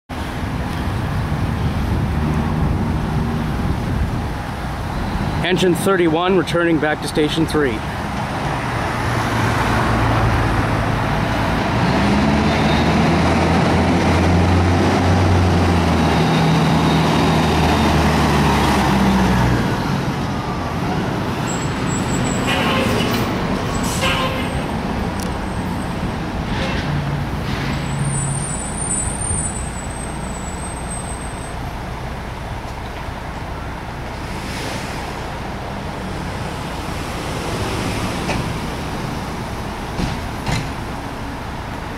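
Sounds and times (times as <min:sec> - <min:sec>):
fire truck diesel engine: 0:00.1 - 0:41.9
street traffic: 0:00.1 - 0:41.9.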